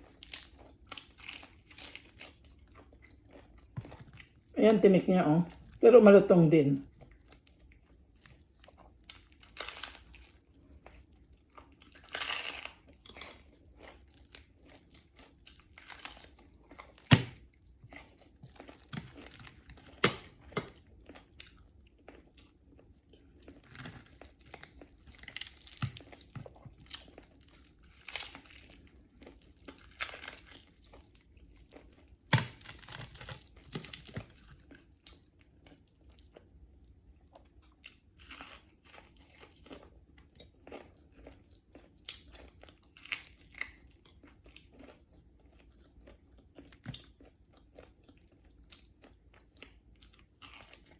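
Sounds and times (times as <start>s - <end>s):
chewing and crunching fried fish: 0.0s - 5.9s, 6.8s - 50.9s.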